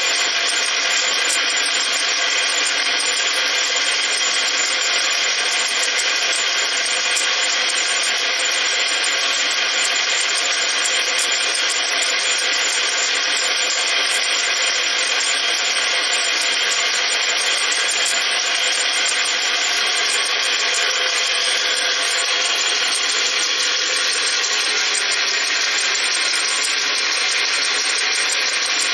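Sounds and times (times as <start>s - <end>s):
small band saw whirring: 0.0s - 28.9s.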